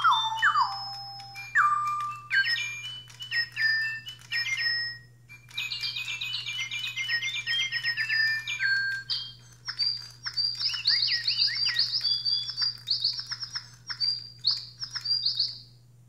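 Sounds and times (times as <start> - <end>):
electronic toy birds chirping: 0.0 - 15.8.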